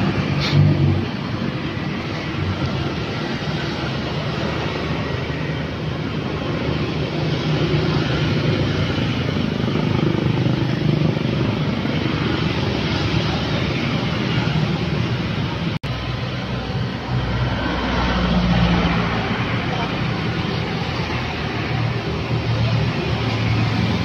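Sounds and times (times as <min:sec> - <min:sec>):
motorcycles and cars passing: 0:00.0 - 0:24.0.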